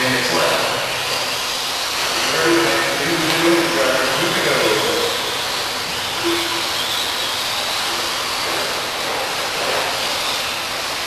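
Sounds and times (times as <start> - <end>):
rc trucks racing on dirt: 0.0 - 11.0.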